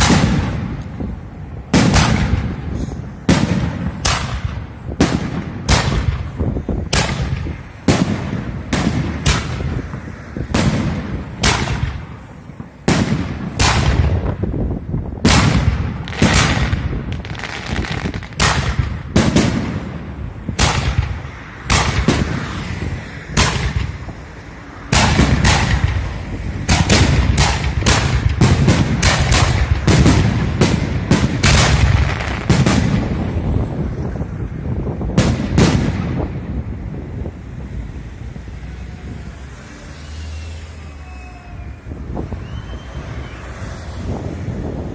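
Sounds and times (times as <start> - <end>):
fireworks shots: 0.0 - 37.6.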